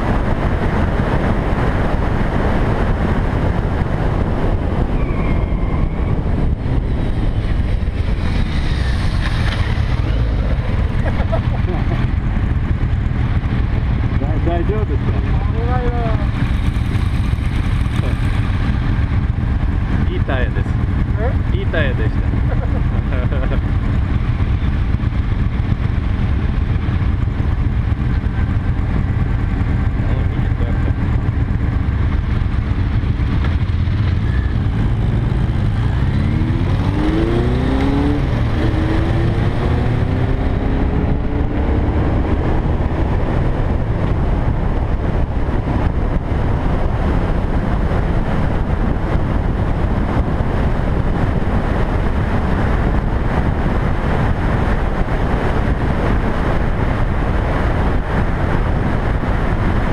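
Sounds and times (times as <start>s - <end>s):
motorcycle engine: 0.0s - 59.9s
wind rumble on microphone: 0.0s - 59.9s.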